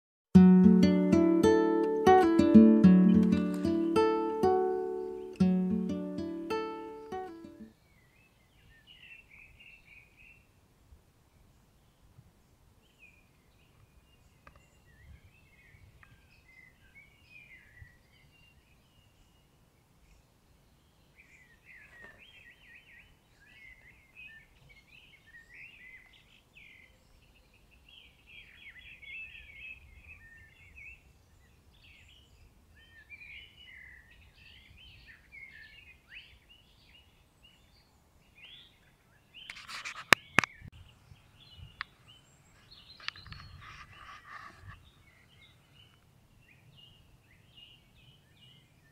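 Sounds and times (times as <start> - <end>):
small birds singing: 0.6 - 10.6, 12.8 - 48.9.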